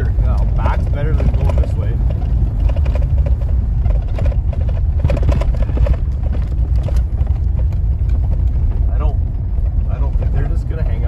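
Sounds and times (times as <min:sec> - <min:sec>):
knocks and rattles over rough ground: 0:00.0 - 0:11.0
truck engine and tyres rumbling: 0:00.0 - 0:11.0.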